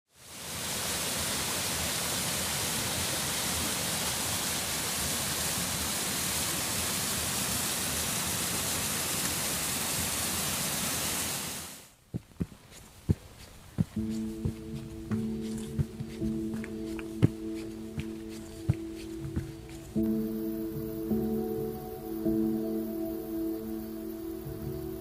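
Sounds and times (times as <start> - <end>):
falling water rushing: 0.2 - 21.0.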